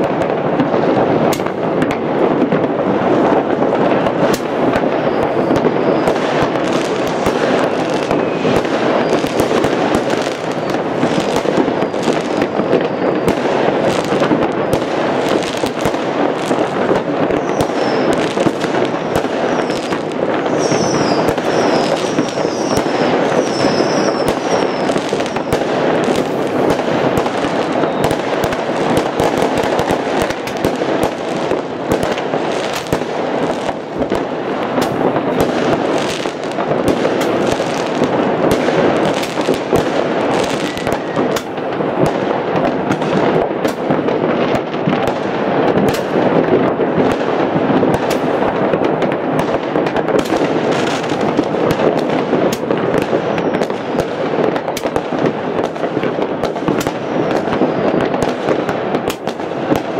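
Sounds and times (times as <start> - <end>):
fireworks bangs and crackling: 0.0 - 59.9
fireworks whistles: 0.0 - 59.9.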